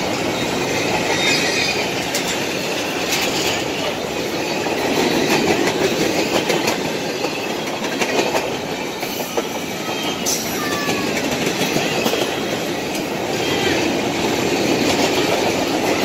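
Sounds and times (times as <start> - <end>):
train wheels rumbling on rail: 0.0 - 16.0
wheels clacking over rail joints: 0.0 - 16.0.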